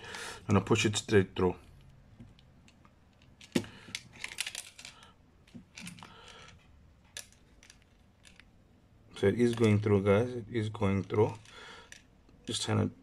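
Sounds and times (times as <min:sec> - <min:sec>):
small clicks and hand rustling: 0:01.6 - 0:08.6, 0:09.2 - 0:12.9.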